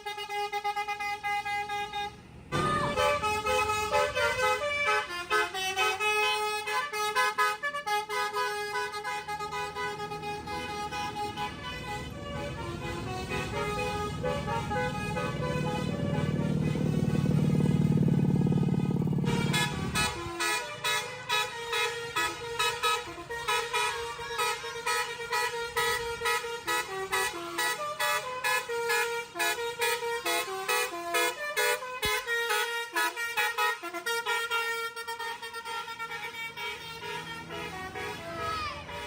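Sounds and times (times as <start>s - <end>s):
bus musical air horn: 0.0s - 39.0s.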